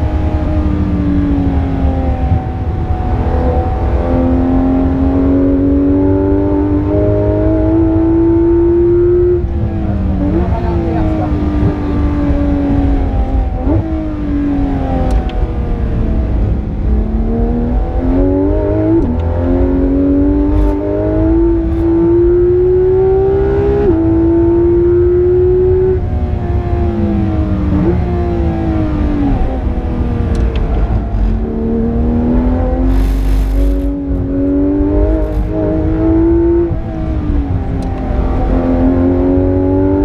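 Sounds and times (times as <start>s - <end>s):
car engine accelerating hard: 0.0s - 40.0s
low road rumble: 0.0s - 40.0s.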